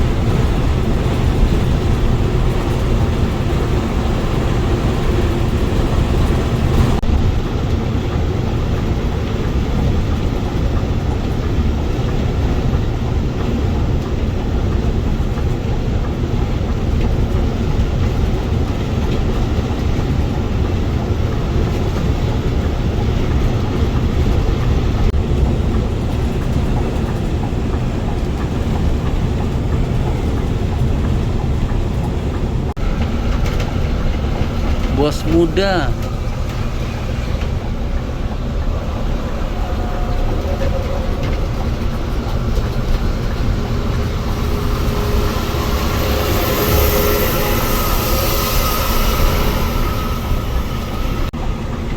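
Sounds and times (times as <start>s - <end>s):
bus engine and road rumble: 0.0s - 49.1s.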